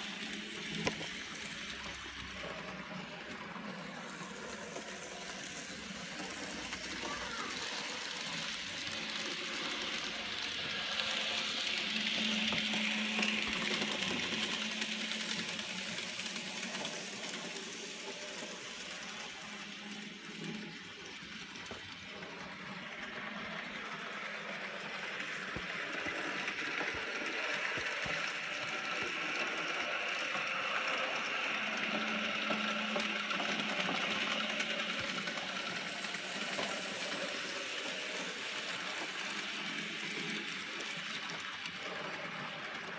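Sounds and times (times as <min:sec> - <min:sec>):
model train motor whirring: 0:00.0 - 0:42.9.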